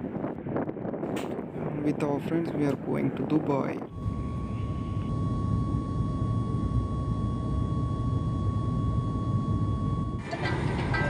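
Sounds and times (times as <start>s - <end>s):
airliner cabin rumble: 0.0s - 11.0s
thin steady whine: 1.9s - 11.0s.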